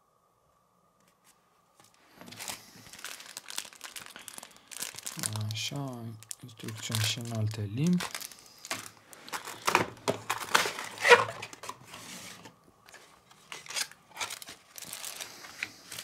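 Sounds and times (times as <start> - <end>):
paper and cardboard rustling: 1.2 - 5.9, 6.6 - 16.0.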